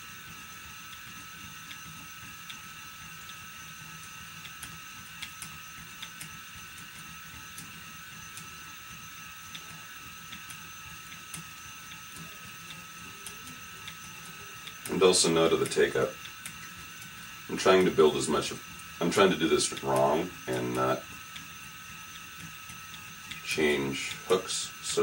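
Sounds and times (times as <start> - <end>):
faint irregular ticks: 0.0 - 25.0
spinning wheel motor whine: 0.0 - 25.0.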